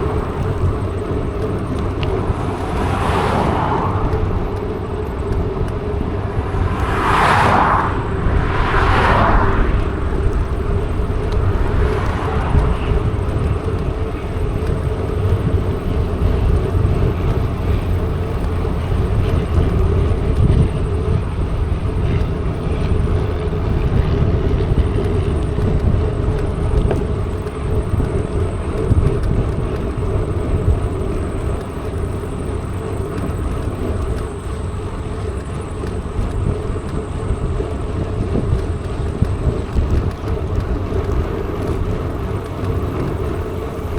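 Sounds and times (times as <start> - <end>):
bike tyres rolling: 0.0 - 43.9
wind rumble on microphone: 0.0 - 43.9.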